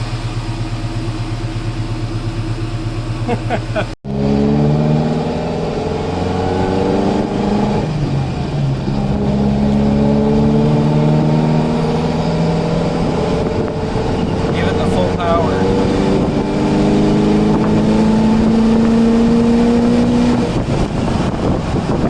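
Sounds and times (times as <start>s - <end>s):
engine running at raised revs: 0.0s - 22.0s.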